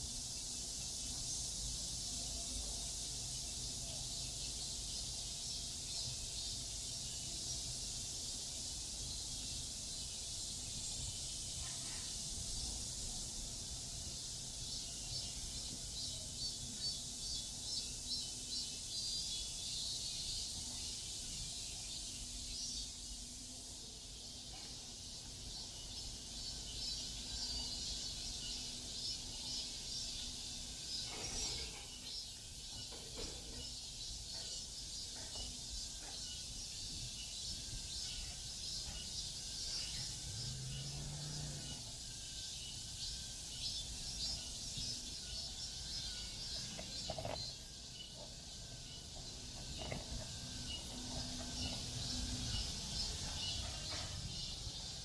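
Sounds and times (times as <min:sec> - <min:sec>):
cicadas shrilling: 0:00.0 - 0:55.0.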